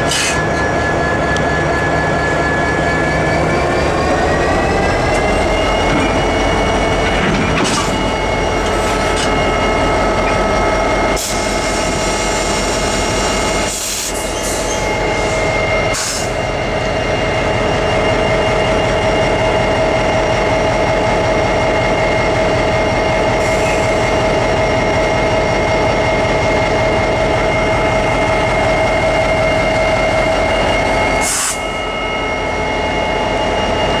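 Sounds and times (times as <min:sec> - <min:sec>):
diesel locomotive engine rumbling: 0:00.0 - 0:34.0.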